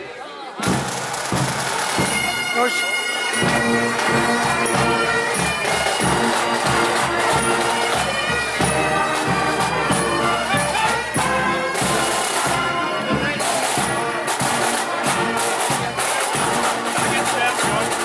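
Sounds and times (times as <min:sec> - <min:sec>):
bagpipes playing a march: 0:00.6 - 0:18.0.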